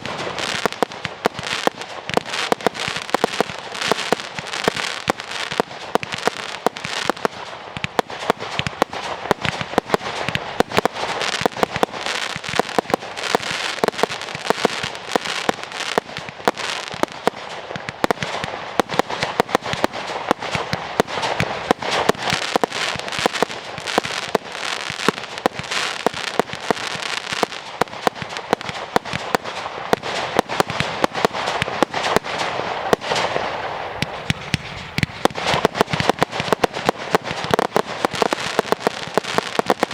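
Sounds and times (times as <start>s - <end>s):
fireworks bangs: 0.0s - 39.9s
fireworks crackle: 0.0s - 39.9s.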